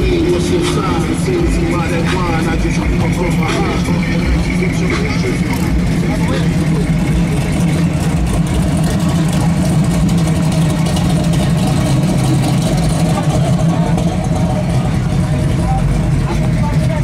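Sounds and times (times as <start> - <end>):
car engines low rumble: 0.0 - 17.0.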